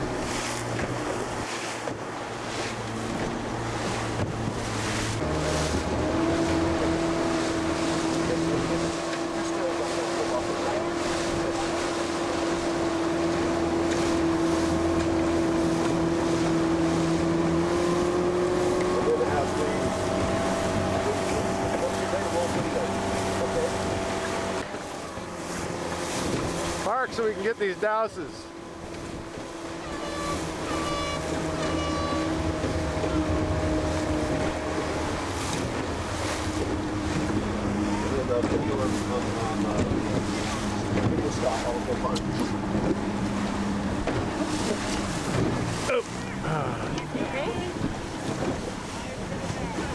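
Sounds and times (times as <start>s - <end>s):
boat motor humming: 0.0s - 49.9s
water noise: 0.0s - 49.9s
wind: 0.0s - 49.9s.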